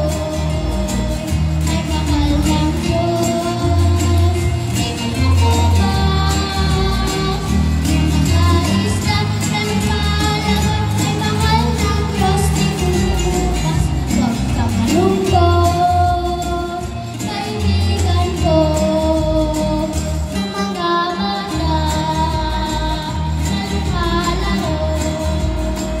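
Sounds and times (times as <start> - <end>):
girl singing into a microphone: 0.0 - 14.1, 14.7 - 26.0
backing track with steady beat: 0.0 - 26.0.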